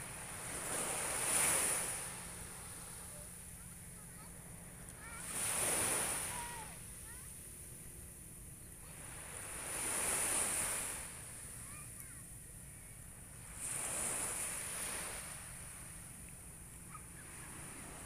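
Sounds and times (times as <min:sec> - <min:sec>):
small waves washing on beach: 0:00.0 - 0:08.1, 0:08.7 - 0:18.0.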